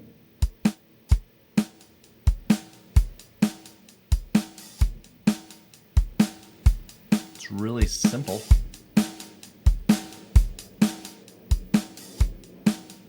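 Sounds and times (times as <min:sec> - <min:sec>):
drum loop: 0:00.4 - 0:13.0.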